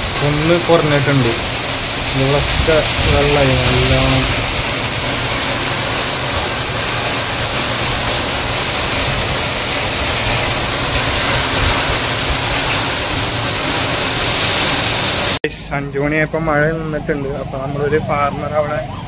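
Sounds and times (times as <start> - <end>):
heavy rain falling: 0.0 - 15.4.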